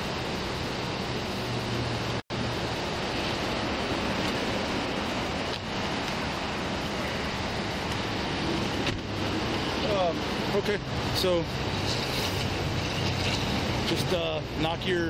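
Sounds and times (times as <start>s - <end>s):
steady rushing outdoor noise: 0.0s - 15.0s.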